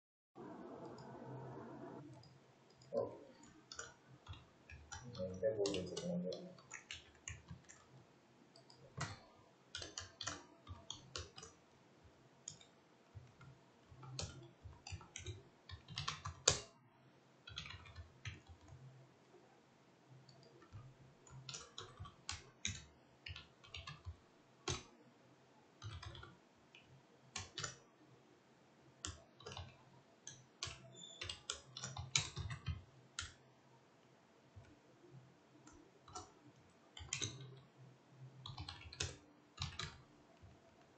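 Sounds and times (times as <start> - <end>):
computer keyboard typing: 2.0 - 11.6, 12.4 - 16.8, 17.4 - 18.9, 20.3 - 25.0, 25.8 - 27.9, 29.0 - 33.4, 34.6 - 40.9.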